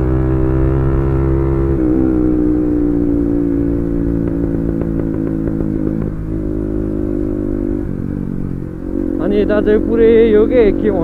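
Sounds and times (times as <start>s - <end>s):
loud motorcycle engine running: 0.0s - 11.0s.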